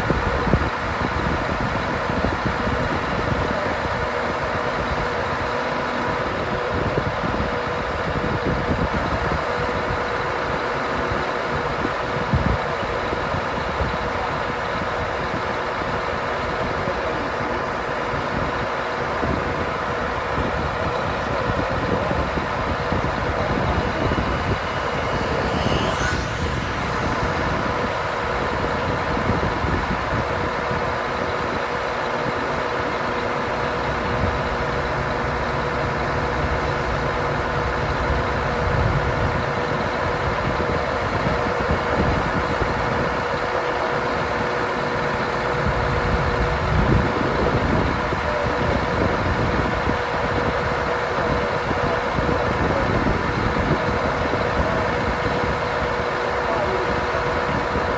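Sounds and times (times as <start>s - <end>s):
diesel engine running: 0.0s - 57.9s
hydraulic whine: 0.0s - 57.9s.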